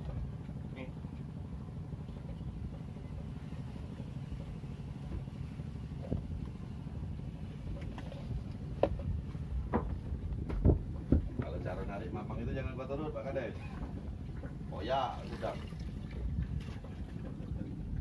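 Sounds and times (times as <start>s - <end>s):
boat motor rumbling: 0.0s - 18.0s.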